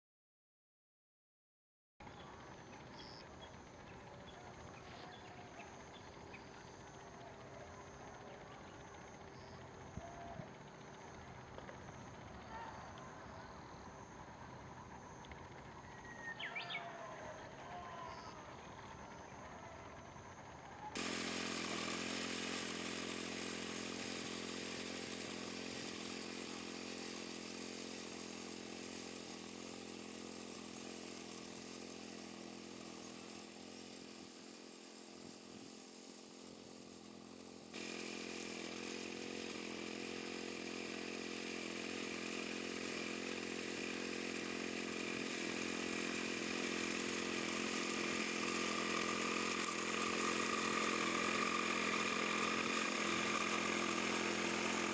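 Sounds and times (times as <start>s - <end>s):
lawn mower engine running: 2.0s - 54.9s.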